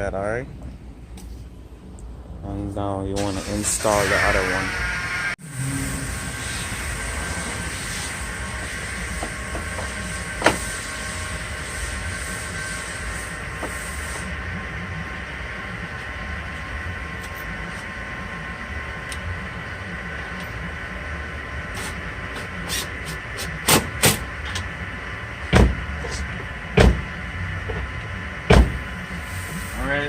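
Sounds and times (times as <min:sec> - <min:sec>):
steady background hum: 0:00.0 - 0:30.0.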